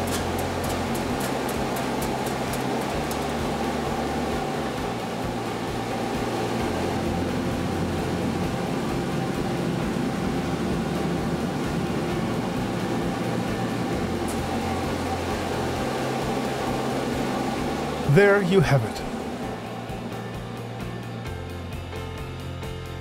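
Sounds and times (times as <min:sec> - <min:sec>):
blower rushing air with hum: 0:00.0 - 0:22.8.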